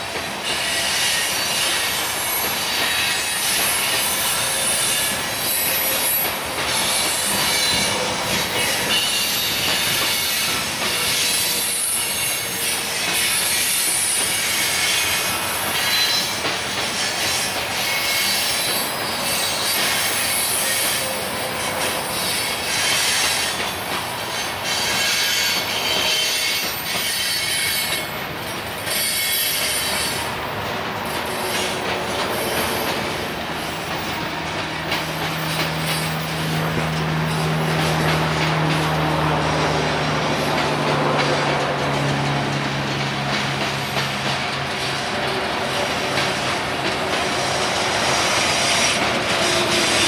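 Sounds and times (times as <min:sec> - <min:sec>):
freight train wheels rumbling: 0:00.0 - 0:50.0
wheel flanges squealing: 0:00.4 - 0:50.0.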